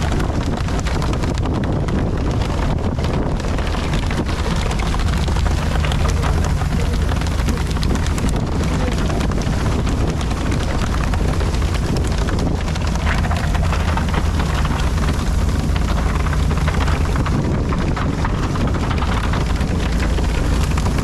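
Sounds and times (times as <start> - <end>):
boat engine rumbling: 0.0 - 21.0
wind on microphone: 0.0 - 21.0.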